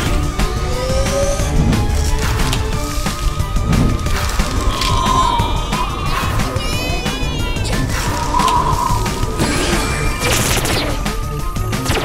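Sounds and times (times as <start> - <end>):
upbeat cartoon music: 0.0 - 12.0.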